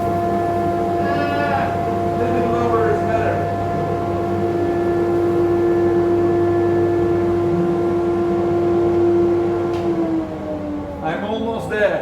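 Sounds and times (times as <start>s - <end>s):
vacuum cleaner motor whine: 0.0s - 11.0s.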